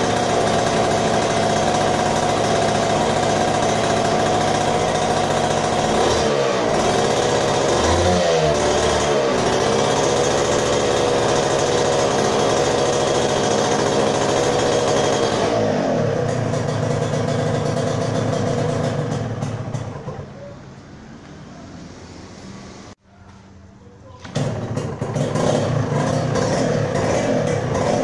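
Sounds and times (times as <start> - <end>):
two-stroke engine revving: 0.0 - 20.4, 24.2 - 28.0.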